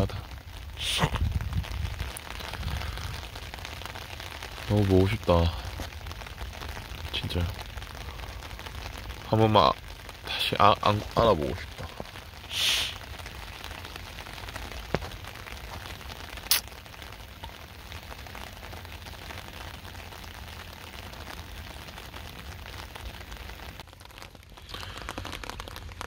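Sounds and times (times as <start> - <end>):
rain on wet concrete: 0.0 - 26.0.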